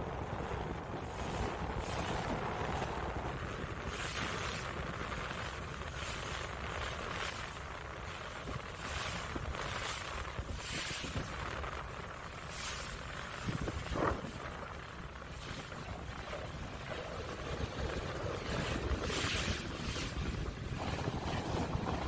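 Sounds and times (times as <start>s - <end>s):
sea wash: 0.0s - 22.0s
ship engine low rumble: 0.0s - 22.0s
wind rushing over microphone: 0.0s - 22.0s.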